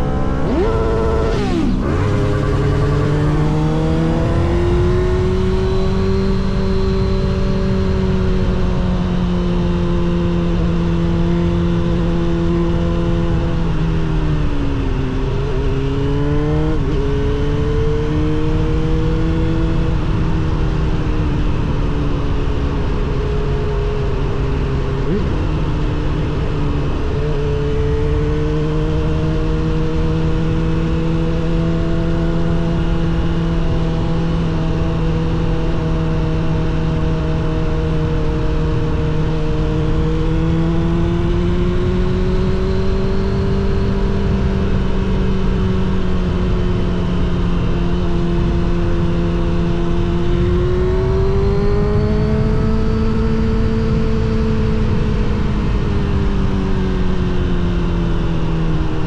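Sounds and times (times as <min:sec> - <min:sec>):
motorcycle engine at mid revs: 0:00.0 - 0:59.0
wind and road rush: 0:00.0 - 0:59.0.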